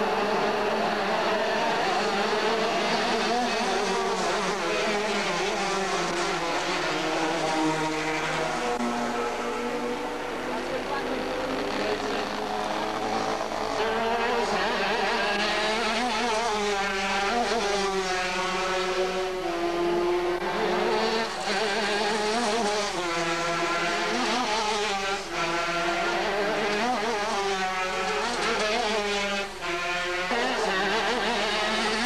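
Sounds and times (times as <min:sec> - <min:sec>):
kart engines revving: 0:00.0 - 0:32.0.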